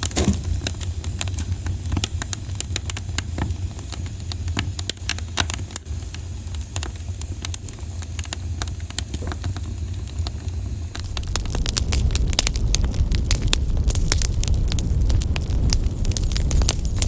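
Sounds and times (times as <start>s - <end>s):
campfire crackling and popping: 0.0s - 17.0s
low fire rumble: 0.0s - 17.0s.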